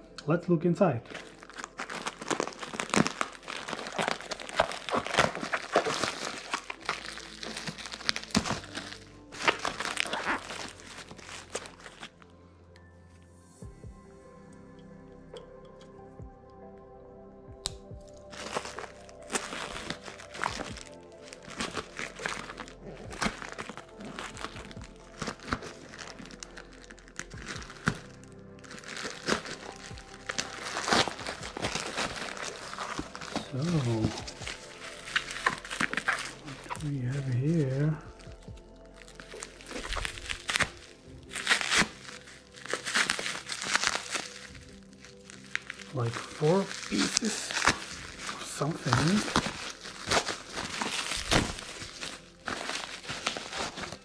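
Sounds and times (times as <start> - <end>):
soft background music: 0.0 - 54.0
bubble mailer crinkling and tearing: 1.0 - 12.3, 17.6 - 54.0.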